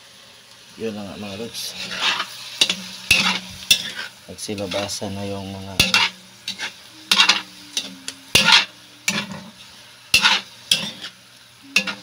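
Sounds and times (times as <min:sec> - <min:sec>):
meat sizzling: 0:00.0 - 0:12.0
metal utensil scraping a wok: 0:01.2 - 0:12.0.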